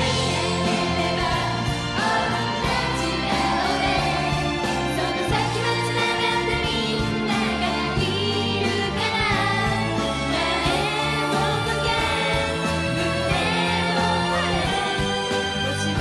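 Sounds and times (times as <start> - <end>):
live band playing: 0.0 - 16.0
women singing: 0.0 - 16.0.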